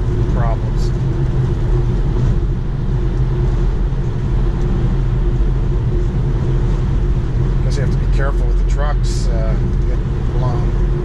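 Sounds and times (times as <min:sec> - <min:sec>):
car cabin road and wind noise: 0:00.0 - 0:11.0.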